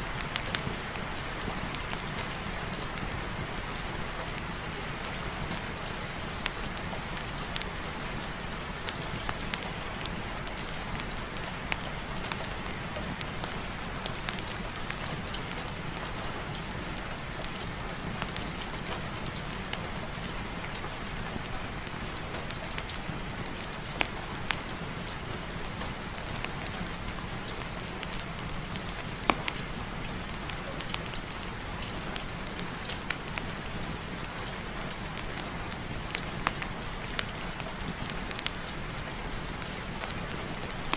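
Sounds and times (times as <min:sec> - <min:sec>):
steady rain: 0:00.0 - 0:40.9
fire crackling and popping: 0:03.8 - 0:40.9.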